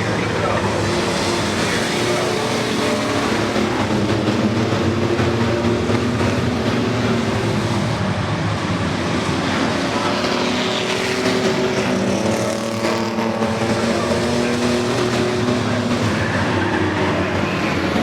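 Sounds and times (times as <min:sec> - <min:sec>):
racing truck engines: 0:00.0 - 0:18.0.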